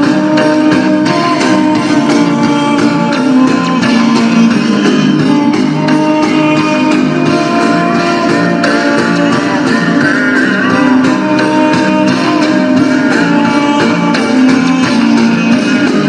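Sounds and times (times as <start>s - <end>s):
guitar background music: 0.0s - 16.0s.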